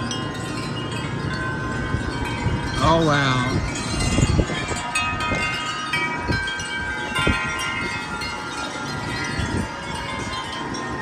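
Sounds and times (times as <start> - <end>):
wind buffeting microphone: 0.0 - 11.0
wind chimes jangling: 0.0 - 11.0.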